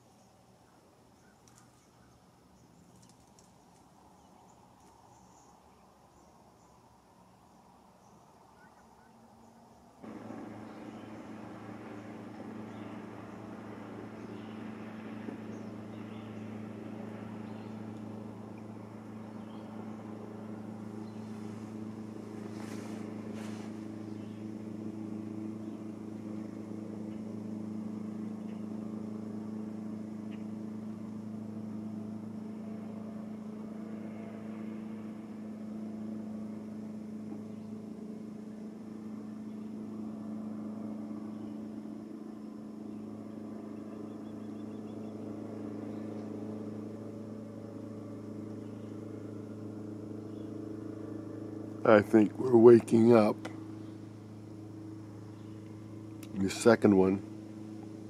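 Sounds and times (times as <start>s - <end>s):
low droning hum: 0.0s - 58.0s.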